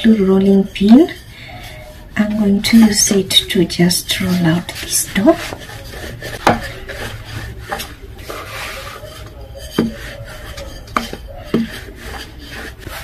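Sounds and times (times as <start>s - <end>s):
rolling pin rubbing on dough: 0.0s - 13.0s.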